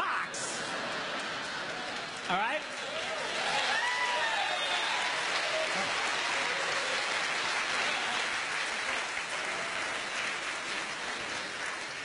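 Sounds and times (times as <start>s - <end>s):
audience applauding: 0.4s - 12.0s.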